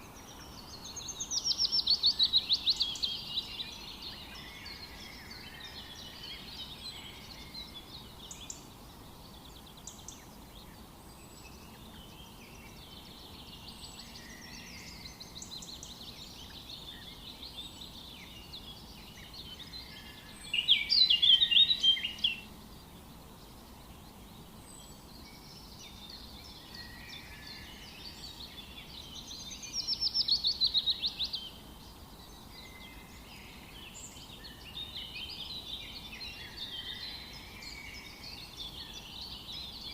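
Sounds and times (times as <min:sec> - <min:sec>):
faint background hiss: 0:00.0 - 0:39.9
forest birds chirping: 0:00.0 - 0:39.9
rapid repeated bird song: 0:00.0 - 0:39.9.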